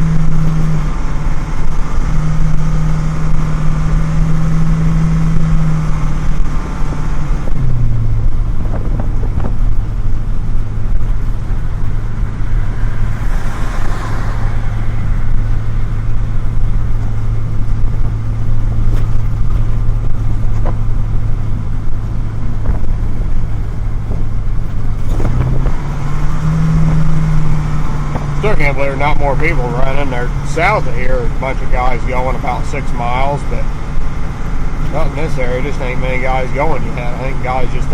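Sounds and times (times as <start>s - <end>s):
truck engine from inside cab: 0.0s - 37.9s.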